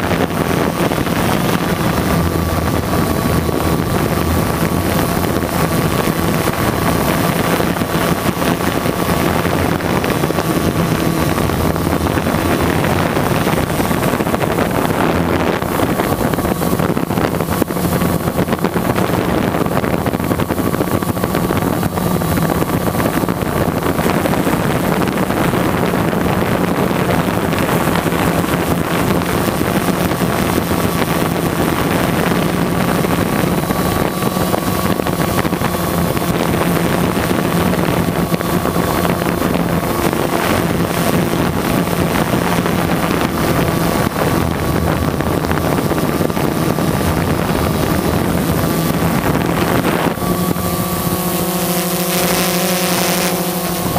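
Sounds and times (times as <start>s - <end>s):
drone propellers humming: 0.0s - 53.9s
wind noise on microphone: 0.0s - 53.9s.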